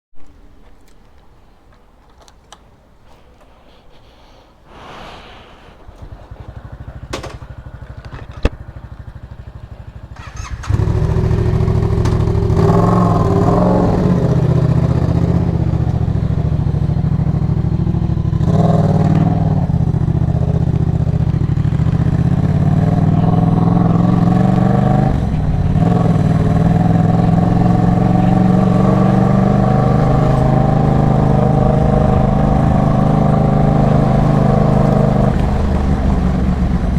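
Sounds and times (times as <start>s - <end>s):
motorcycle engine idling: 5.6s - 36.9s.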